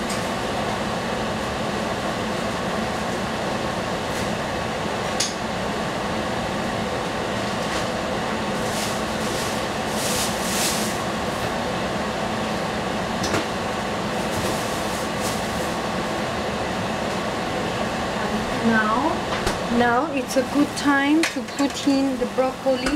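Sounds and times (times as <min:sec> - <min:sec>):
steady rushing kitchen noise: 0:00.0 - 0:22.9.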